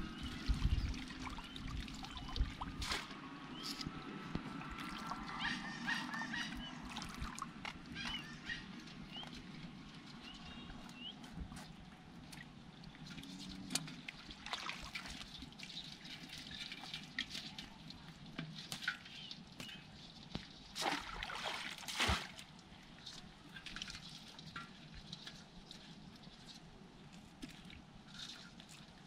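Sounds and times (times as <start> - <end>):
small splashes: 0.0 - 26.6
water sloshing and dripping: 0.0 - 29.0.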